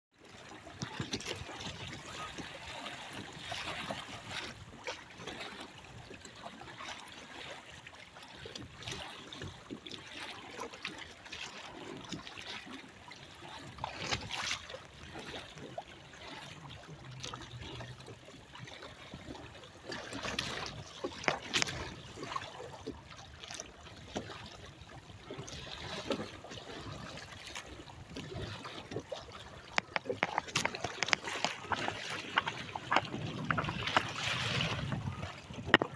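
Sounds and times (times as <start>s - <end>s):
water splashing against hull: 0.2s - 35.9s.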